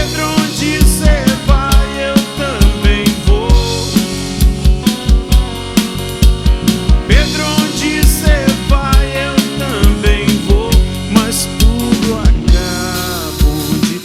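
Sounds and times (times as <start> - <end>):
bending lead melody: 0.0 - 14.0
drum kit beat: 0.0 - 14.0.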